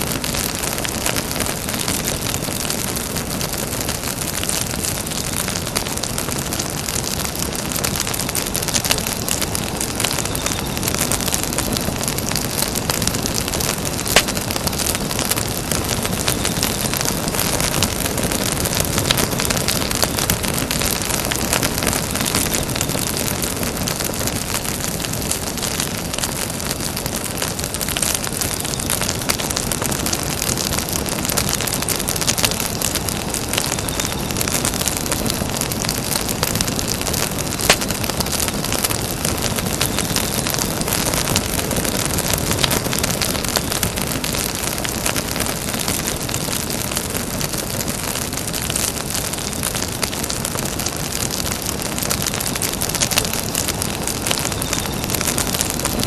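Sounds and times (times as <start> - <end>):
bonfire flames hissing: 0.0 - 56.0
fire crackling and popping: 0.0 - 56.0.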